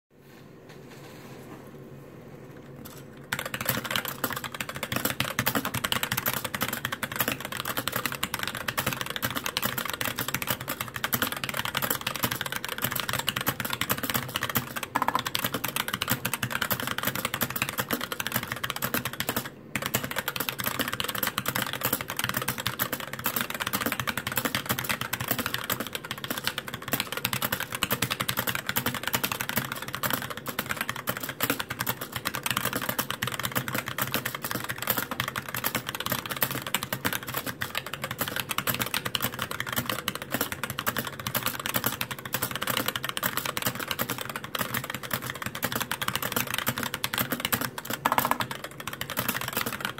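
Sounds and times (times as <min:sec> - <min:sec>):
mechanical keyboard typing clatter: 0:02.8 - 0:49.9.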